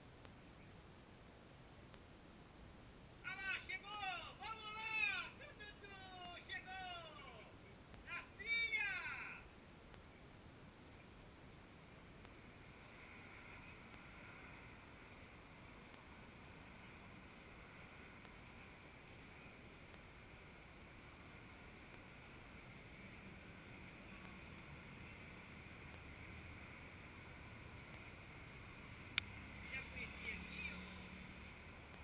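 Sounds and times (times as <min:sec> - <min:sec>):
faint outdoor hiss: 0:00.0 - 0:32.0.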